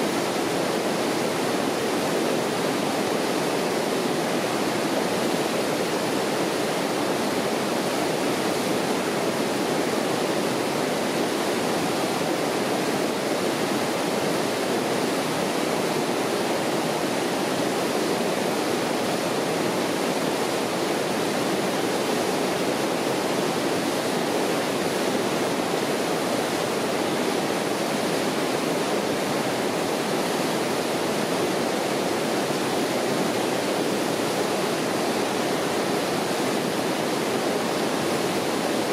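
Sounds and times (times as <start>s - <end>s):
whitewater rushing over rocks: 0.0s - 38.9s.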